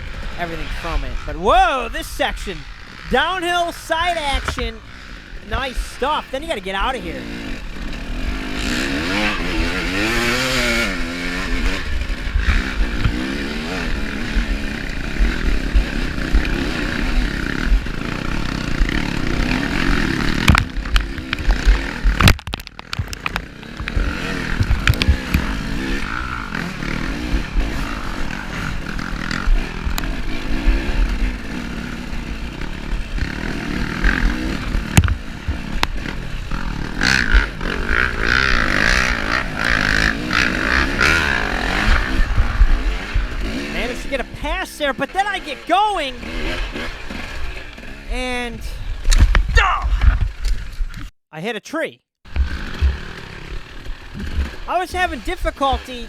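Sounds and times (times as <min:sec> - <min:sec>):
dirt bike engine revving: 0:00.0 - 0:22.3, 0:22.9 - 0:50.4, 0:52.3 - 0:56.0.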